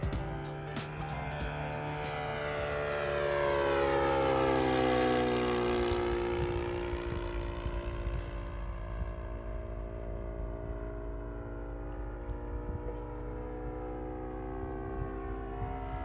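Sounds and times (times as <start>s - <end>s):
model plane engine flying past: 0.0s - 16.0s.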